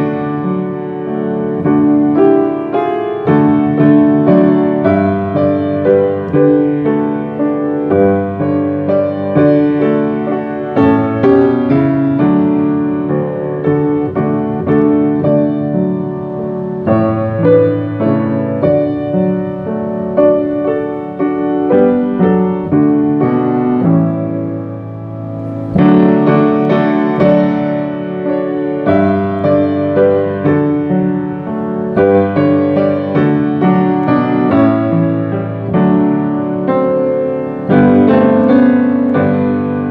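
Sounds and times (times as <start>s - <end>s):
piano playing chords: 0.0s - 39.9s.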